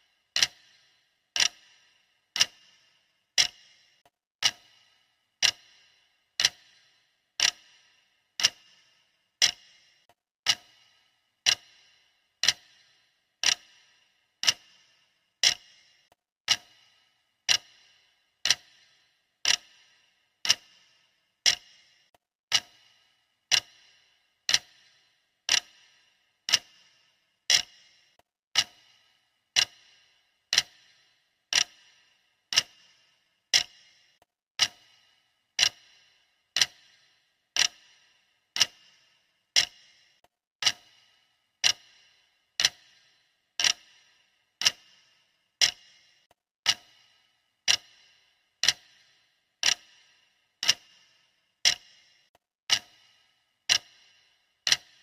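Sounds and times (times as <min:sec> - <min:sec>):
clock ticking with metallic ring: 0:00.0 - 0:55.0.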